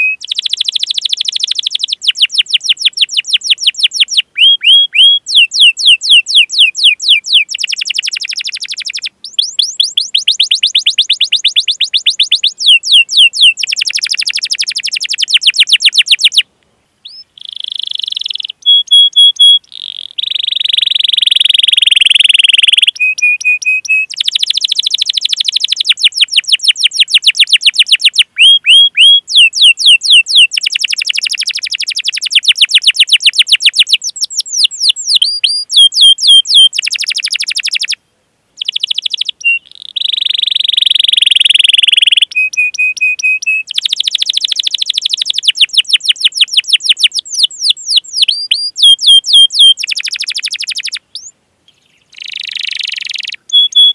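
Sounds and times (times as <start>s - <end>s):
canary singing: 0.0s - 38.0s, 38.6s - 53.9s.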